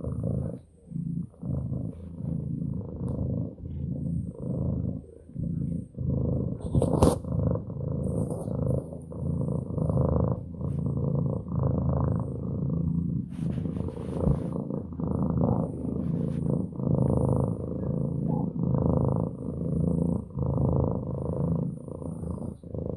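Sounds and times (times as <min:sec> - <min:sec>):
cat purring loudly: 0:00.0 - 0:22.9.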